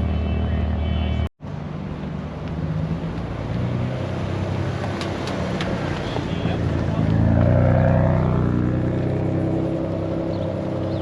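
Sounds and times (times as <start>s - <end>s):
car engines running at low revs: 1.4s - 11.0s.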